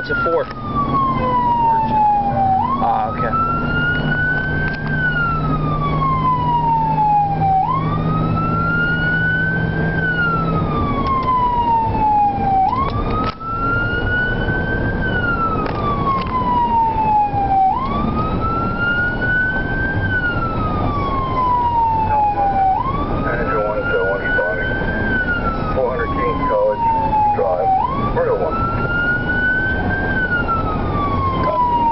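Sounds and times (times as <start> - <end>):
emergency siren wailing: 0.0 - 31.9
engine and road noise: 0.0 - 31.9.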